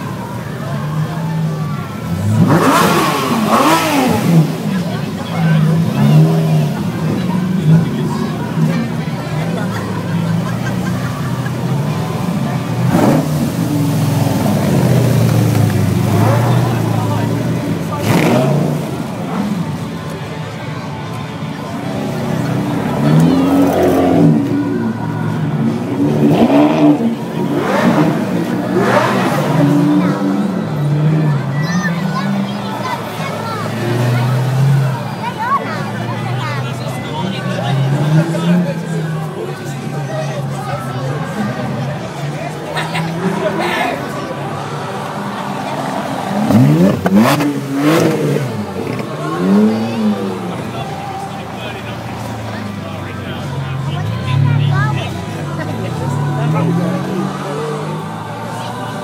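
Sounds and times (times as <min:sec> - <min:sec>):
sports car engines revving: 0:00.0 - 0:59.0.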